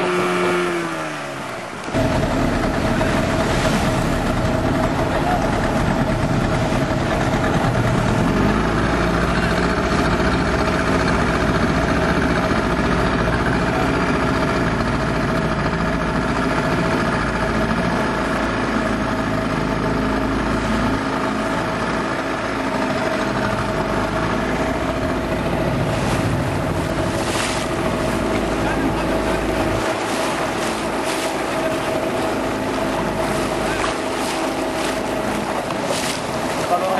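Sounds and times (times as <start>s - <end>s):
boat engine running: 0.0s - 36.9s.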